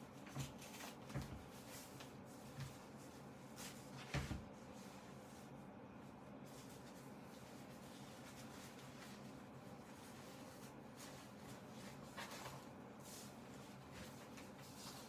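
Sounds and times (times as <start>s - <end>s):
soft handling knocks and rustles: 0.2s - 5.6s, 6.4s - 15.0s.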